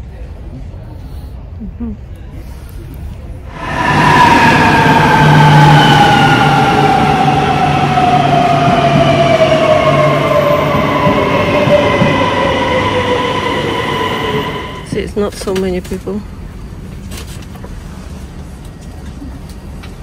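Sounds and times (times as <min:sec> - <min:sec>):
train wheels rumbling: 0:03.4 - 0:20.0.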